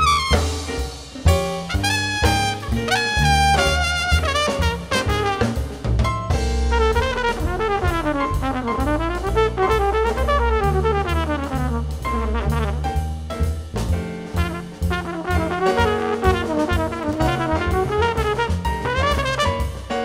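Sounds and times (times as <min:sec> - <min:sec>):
trumpet playing fast runs: 0:00.0 - 0:00.7, 0:01.6 - 0:05.8, 0:06.7 - 0:13.1, 0:14.3 - 0:19.9
drum kit with cymbals: 0:00.0 - 0:20.0
upright bass: 0:00.0 - 0:20.0.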